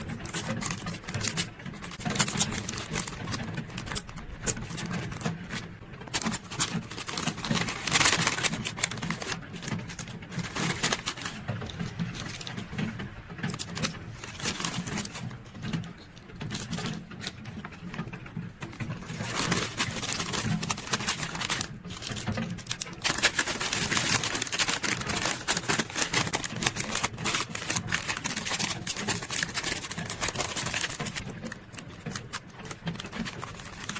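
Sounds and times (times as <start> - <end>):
plastic sleeves crinkling: 0.0 - 33.9.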